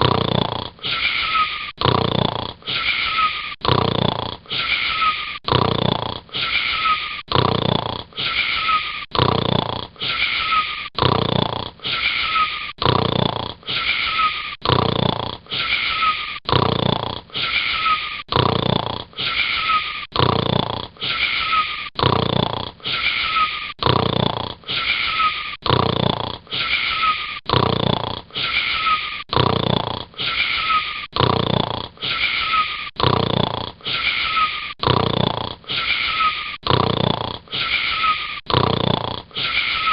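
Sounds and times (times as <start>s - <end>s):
wheezy snoring with whistle: 0.0s - 39.9s.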